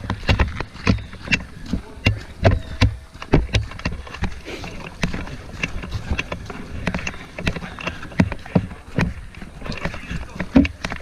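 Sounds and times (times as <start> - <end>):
footsteps on ground: 0.0 - 11.0.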